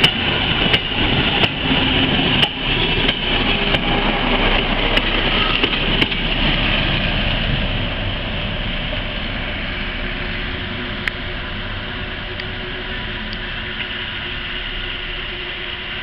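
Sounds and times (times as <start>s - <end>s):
diesel locomotive passing: 0.0s - 16.0s.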